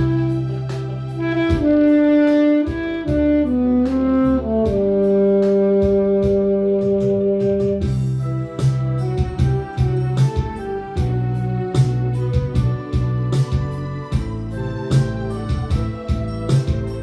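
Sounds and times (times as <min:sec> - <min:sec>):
backing track bass and drums: 0:00.0 - 0:17.0
saxophone melody: 0:00.0 - 0:17.0.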